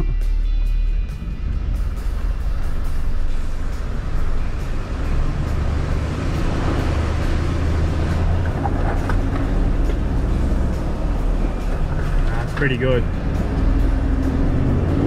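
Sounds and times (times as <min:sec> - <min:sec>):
engine running under load: 0:00.8 - 0:15.0
water splashing around wheels: 0:02.0 - 0:15.0.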